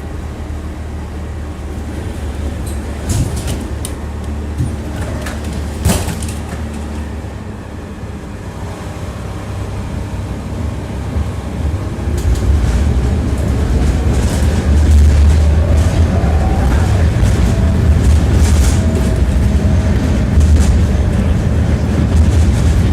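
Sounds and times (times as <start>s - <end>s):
tram wheels rumbling on rails: 0.0s - 22.9s.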